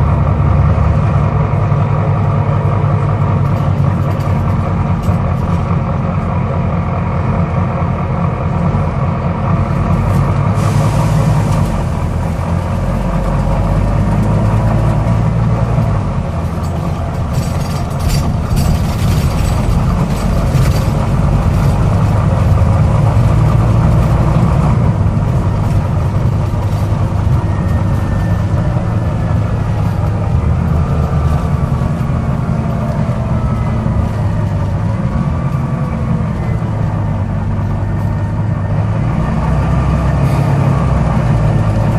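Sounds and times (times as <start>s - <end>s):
bus diesel engine rumbling: 0.0s - 41.9s.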